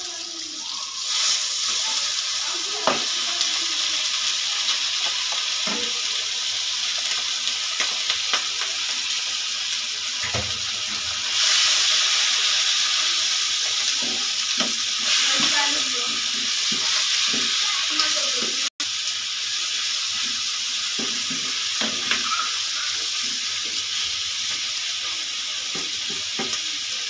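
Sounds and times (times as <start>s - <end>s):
meat sizzling in hot oil: 0.0s - 27.0s.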